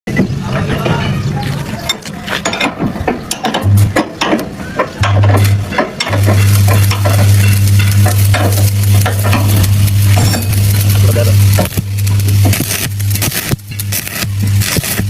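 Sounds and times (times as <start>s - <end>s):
low welder hum: 0.3s - 15.0s
welding arc crackling: 1.1s - 15.0s.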